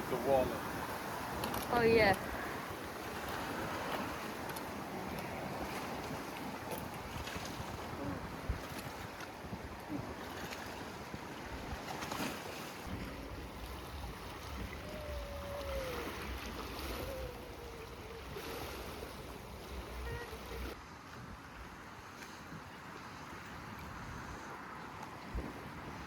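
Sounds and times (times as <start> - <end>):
wind gusting against microphone: 0.0 - 21.5.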